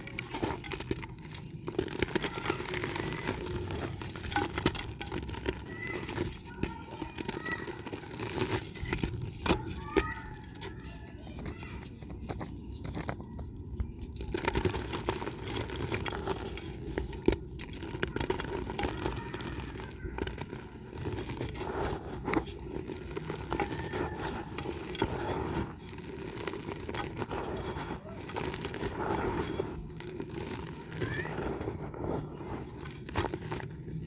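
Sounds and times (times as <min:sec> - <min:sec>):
dirt chunks crumbled by hand: 0:00.0 - 0:34.0.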